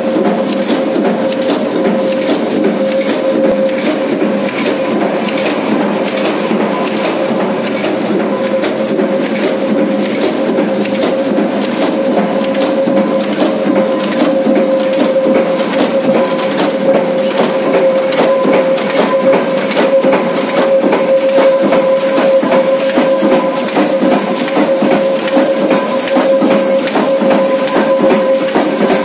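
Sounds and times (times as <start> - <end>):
machine clattering knocks: 0.0 - 29.0
machine whining tone: 0.0 - 29.0.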